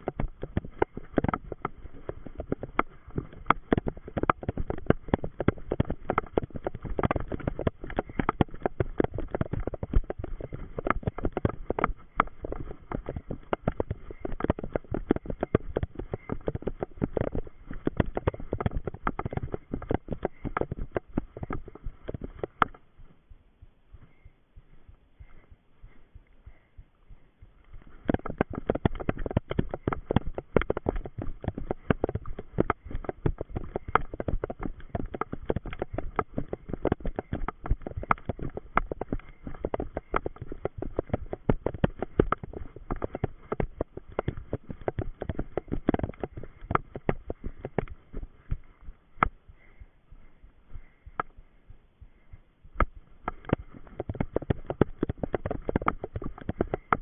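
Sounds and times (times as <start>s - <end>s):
running footsteps on leaves: 0.0s - 51.2s.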